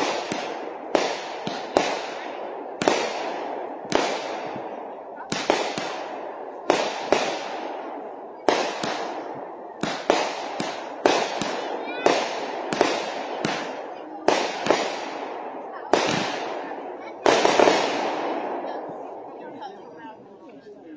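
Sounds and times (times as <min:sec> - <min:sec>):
fireworks bangs with rolling echo: 0:00.0 - 0:19.9.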